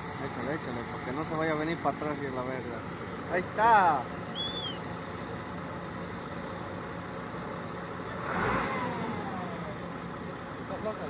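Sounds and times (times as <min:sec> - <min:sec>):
van engine under load: 0:00.0 - 0:11.0.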